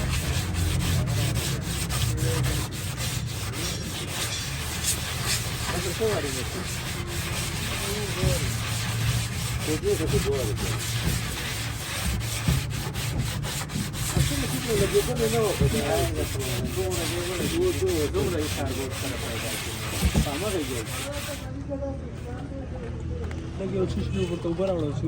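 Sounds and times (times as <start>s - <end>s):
sanding car body panel: 0.0s - 21.5s.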